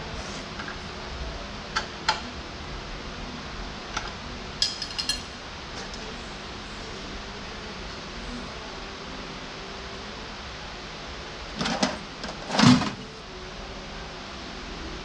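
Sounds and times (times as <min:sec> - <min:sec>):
fan hissing: 0:00.0 - 0:15.0.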